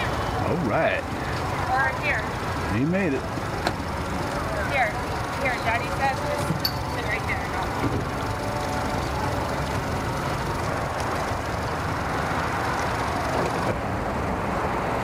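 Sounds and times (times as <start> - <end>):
vehicle engines idling: 0.0 - 15.0.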